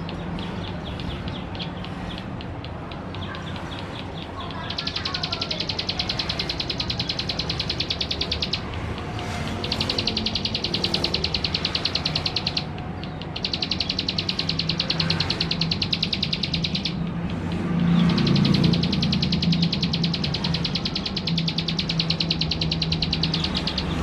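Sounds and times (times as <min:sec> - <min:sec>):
bird singing rapid high notes: 0:00.0 - 0:24.0.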